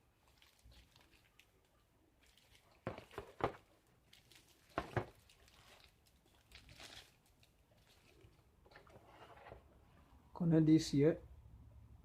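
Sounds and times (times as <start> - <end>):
cable rustle: 0.2 - 10.0.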